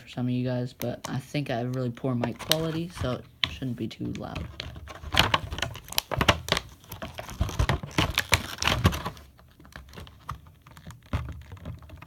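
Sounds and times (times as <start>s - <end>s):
plastic packaging crinkling: 2.1s - 12.0s.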